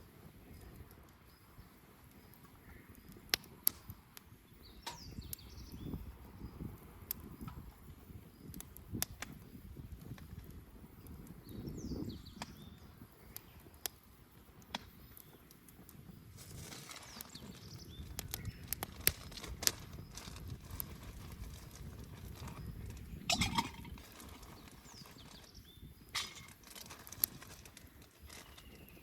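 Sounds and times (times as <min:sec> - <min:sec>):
rustle of flames: 0:00.0 - 0:29.0
wood crackling and popping: 0:00.0 - 0:29.0.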